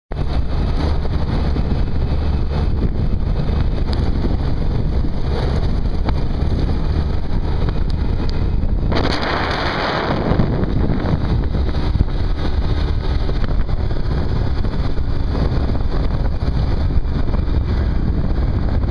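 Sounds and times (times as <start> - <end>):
atv engine rumble: 0.1 - 18.9
wind buffeting microphone: 0.1 - 18.9.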